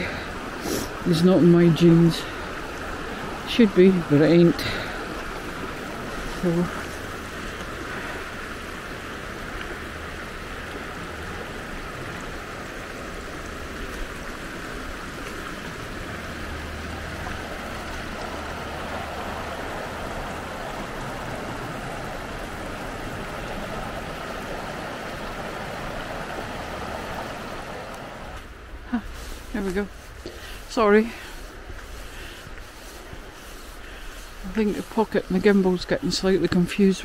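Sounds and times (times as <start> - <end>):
river flowing over rocks: 0.0 - 37.0.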